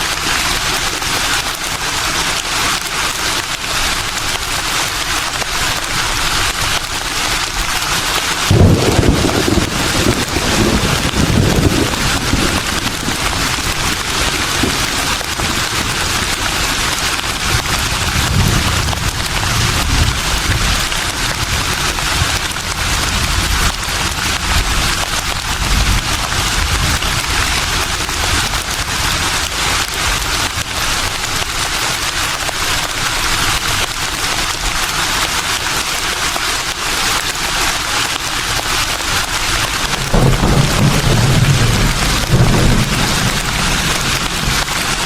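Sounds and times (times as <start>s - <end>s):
leaves rustling in the wind: 0.0s - 45.0s.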